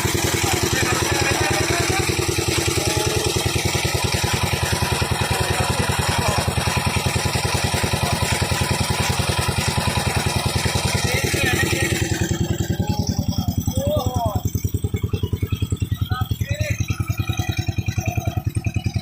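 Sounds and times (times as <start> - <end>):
small engine chugging: 0.0 - 19.0.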